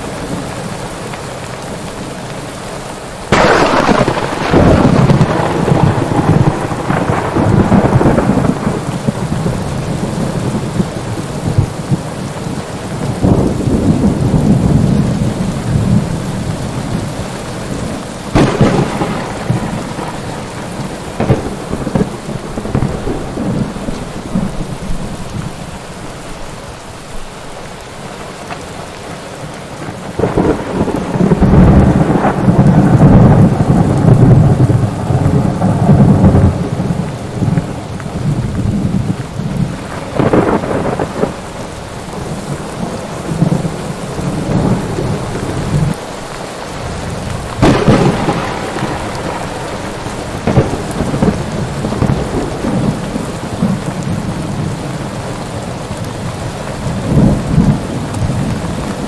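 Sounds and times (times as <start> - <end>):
heavy rain: 0.0 - 59.0
rolling thunder: 3.3 - 25.8, 29.8 - 46.0, 46.8 - 59.0.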